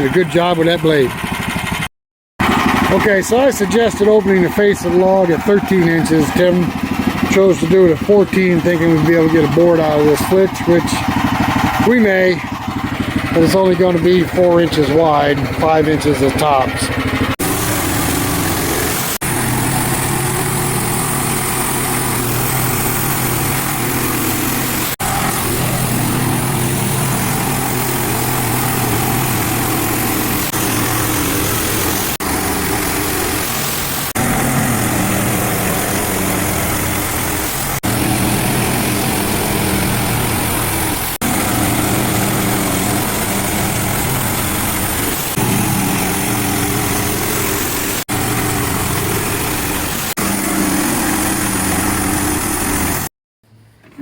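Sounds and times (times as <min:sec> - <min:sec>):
small gasoline engine running: 0:00.0 - 0:53.1
saw blade cutting log: 0:02.4 - 0:53.1.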